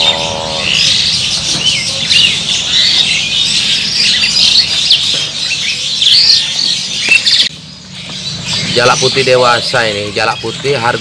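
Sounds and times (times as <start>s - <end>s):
caged birds chirping and squawking: 0.0s - 11.0s.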